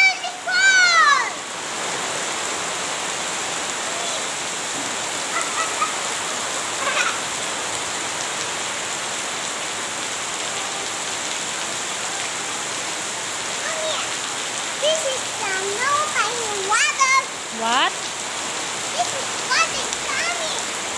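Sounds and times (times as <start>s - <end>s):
heavy rain pouring: 0.0s - 20.9s.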